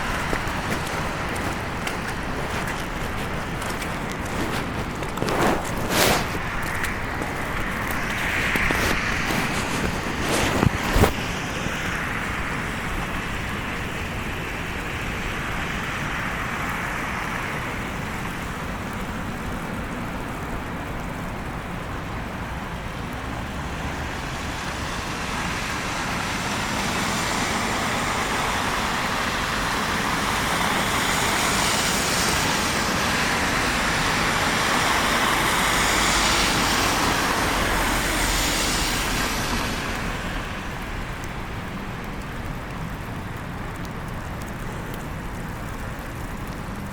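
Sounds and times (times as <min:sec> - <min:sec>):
vehicle passing on snowy street: 0:00.0 - 0:46.9.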